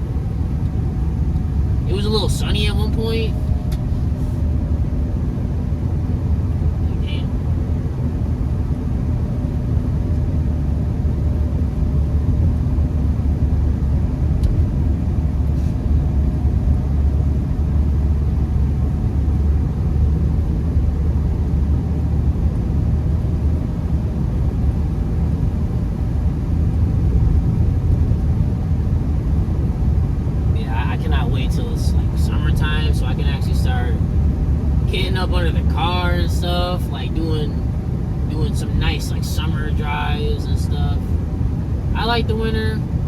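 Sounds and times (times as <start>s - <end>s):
car engine rumble: 0.0s - 43.0s
tyres on snowy road: 0.0s - 43.0s.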